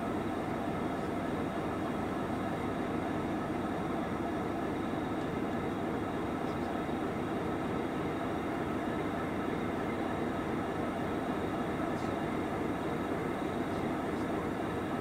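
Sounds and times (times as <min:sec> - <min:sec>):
diesel locomotives idling: 0:00.0 - 0:15.0.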